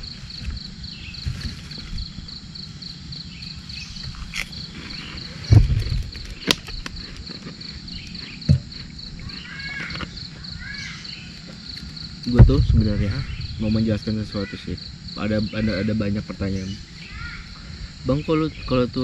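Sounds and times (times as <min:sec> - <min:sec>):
insects chirping in pulses: 0:00.0 - 0:19.0.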